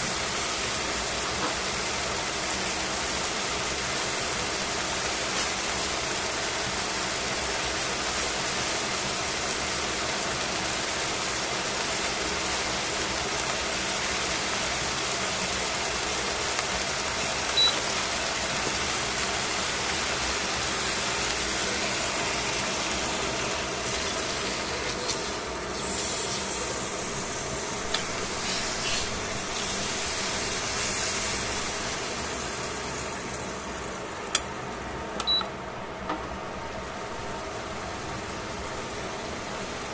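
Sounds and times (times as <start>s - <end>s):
meat sizzling in hot oil: 0.0s - 34.8s.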